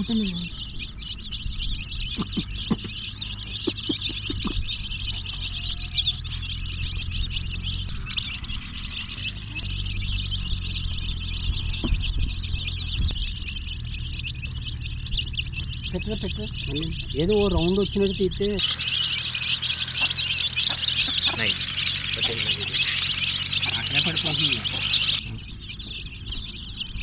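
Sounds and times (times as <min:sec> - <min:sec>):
chicks peeping: 0:00.0 - 0:27.0
steady low hum: 0:00.0 - 0:27.0.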